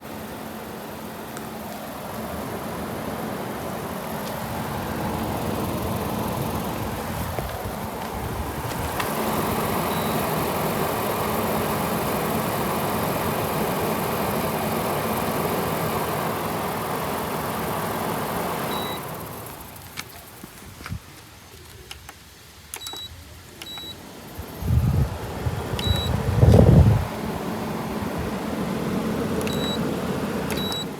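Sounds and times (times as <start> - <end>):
air conditioner blower rushing: 0.0 - 20.0, 22.7 - 30.9.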